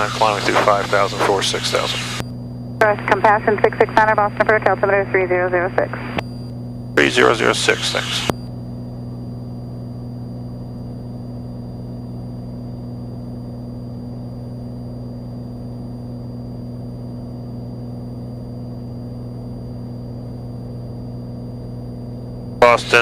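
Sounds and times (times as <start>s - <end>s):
propeller plane engine drone: 0.0s - 6.2s, 6.8s - 23.0s
faint high whine: 0.0s - 23.0s.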